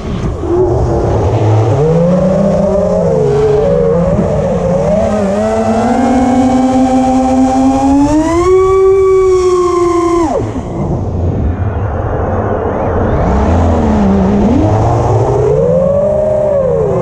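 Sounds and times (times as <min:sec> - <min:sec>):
quadcopter motors whining: 0:00.0 - 0:11.1, 0:13.0 - 0:17.0
low wind rumble: 0:00.0 - 0:17.0.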